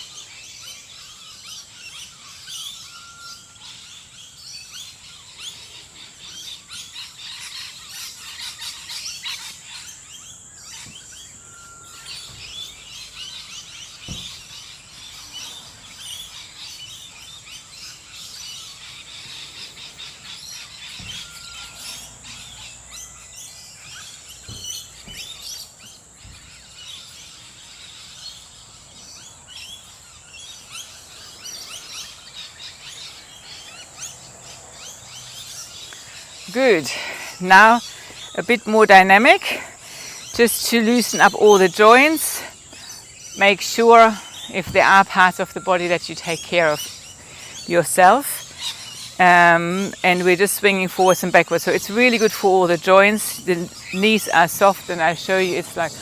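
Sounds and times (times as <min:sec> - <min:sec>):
dawn chorus of birds: 0:00.0 - 0:56.0.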